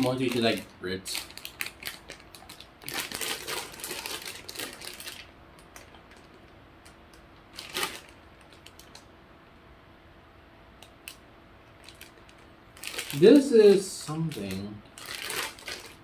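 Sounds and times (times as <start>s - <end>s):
plastic wrapper crinkling: 0.0s - 9.1s, 11.1s - 16.0s.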